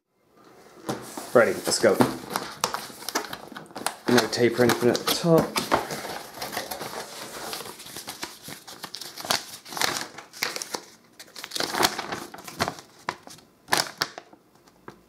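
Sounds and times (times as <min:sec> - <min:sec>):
packaging rustling and crinkling: 0:00.8 - 0:15.0.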